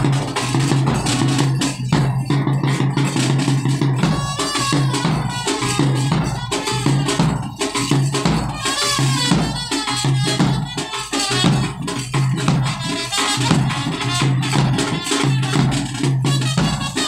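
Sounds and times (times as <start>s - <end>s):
trumpet melody: 0.0s - 1.9s, 4.0s - 17.0s
bass drum beat: 0.0s - 17.0s
hand percussion: 0.0s - 17.0s
snare drum: 0.0s - 17.0s.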